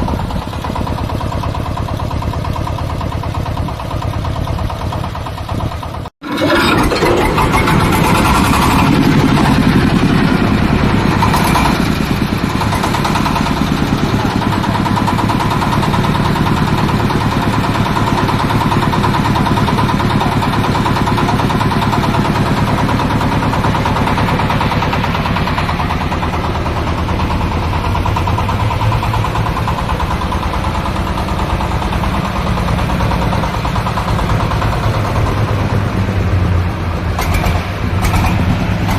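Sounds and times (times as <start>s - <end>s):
corn sheller running: 0.0s - 36.5s.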